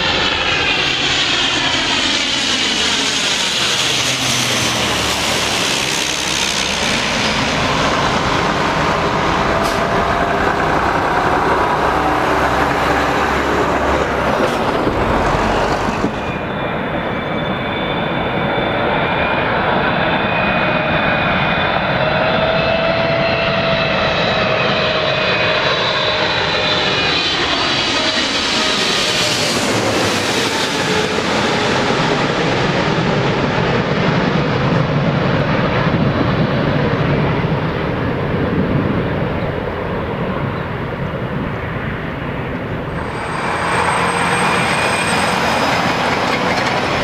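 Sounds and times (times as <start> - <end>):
jet engines roaring and whining: 0.0 - 47.0.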